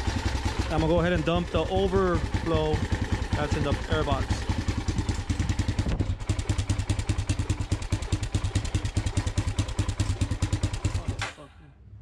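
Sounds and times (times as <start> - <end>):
engine idling: 0.0 - 11.5.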